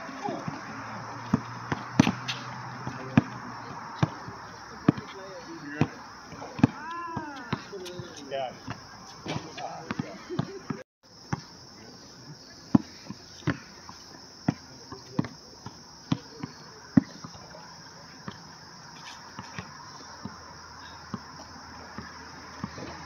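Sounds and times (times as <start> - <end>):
basketball bouncing on asphalt: 0.0 - 11.5, 12.7 - 17.6, 18.2 - 23.0.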